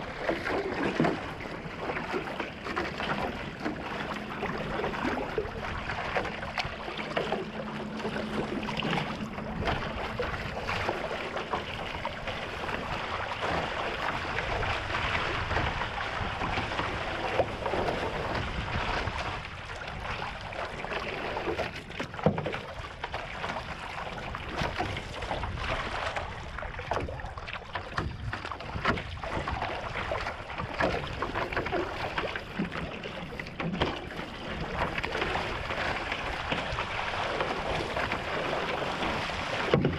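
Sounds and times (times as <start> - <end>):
paddle strokes in water: 0.0 - 39.9
water rushing along canoe: 0.0 - 39.9.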